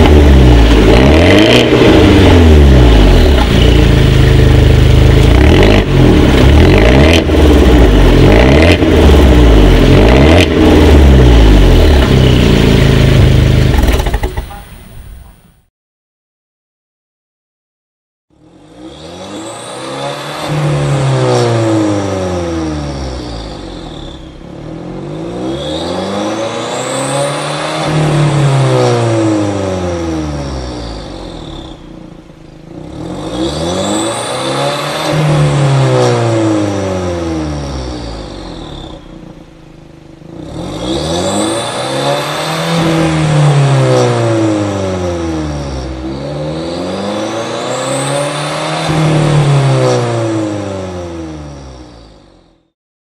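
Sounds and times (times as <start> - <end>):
car engine revving: 0.0 - 15.1, 18.4 - 52.7.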